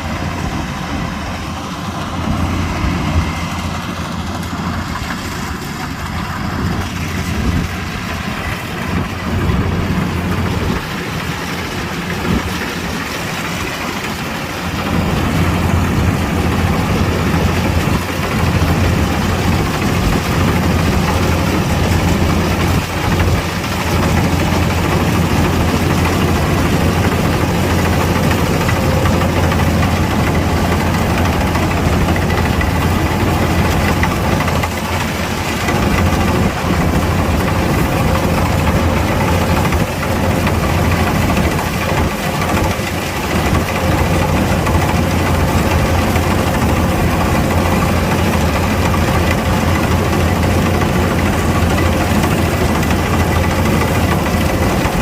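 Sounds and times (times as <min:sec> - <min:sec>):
combine harvester engine droning: 0:00.0 - 0:55.0.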